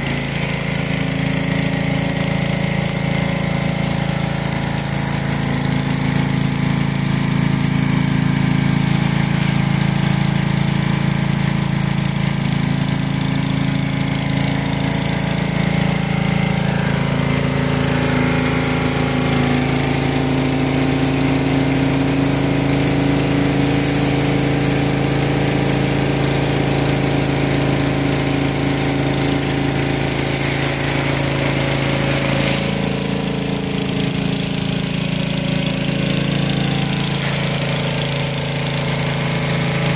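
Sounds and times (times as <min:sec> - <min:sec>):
pressure washer engine running: 0:00.0 - 0:39.9
water jet hissing on concrete: 0:00.0 - 0:39.9.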